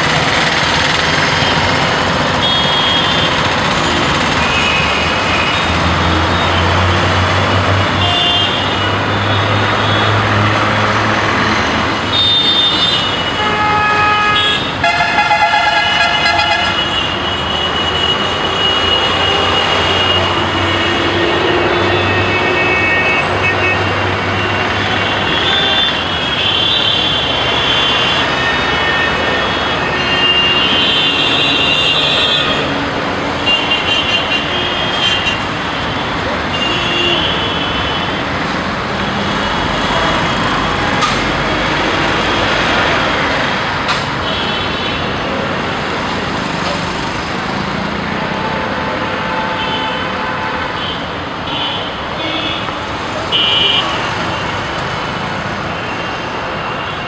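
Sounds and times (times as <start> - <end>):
dense road traffic: 0.0 - 57.0.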